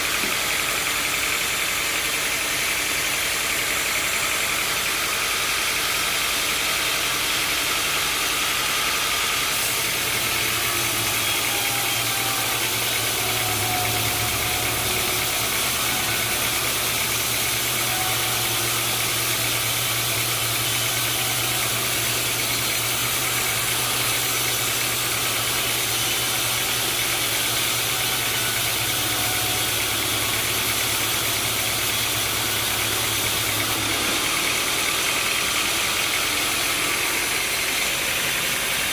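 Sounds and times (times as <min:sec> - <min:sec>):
sawmill machinery engine: 0:00.0 - 0:38.9.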